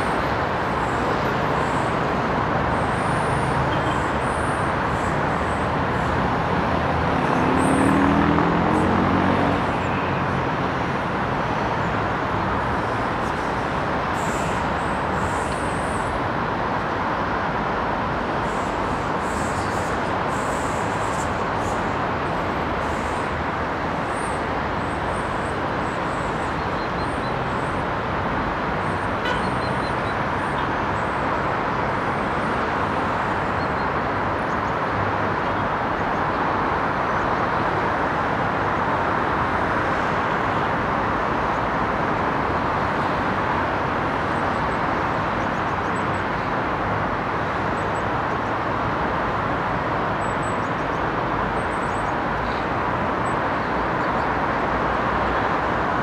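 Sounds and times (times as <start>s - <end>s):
distant city traffic: 0.0s - 56.0s.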